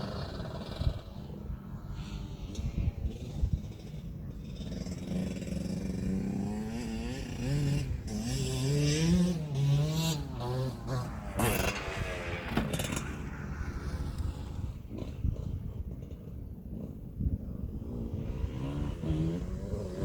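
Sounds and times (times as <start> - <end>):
motocross bike engine revving: 0.0 - 17.0, 17.7 - 20.0.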